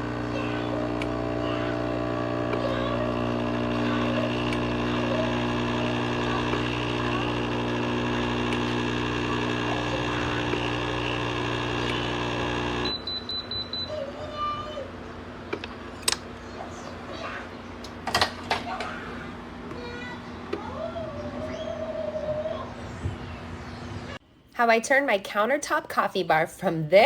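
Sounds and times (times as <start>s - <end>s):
machine humming: 0.0s - 24.5s.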